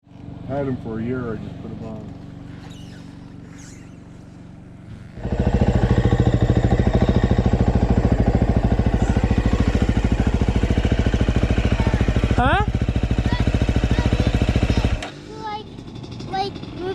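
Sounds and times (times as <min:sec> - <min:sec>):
dirt bike engine idling: 0:00.1 - 0:16.9.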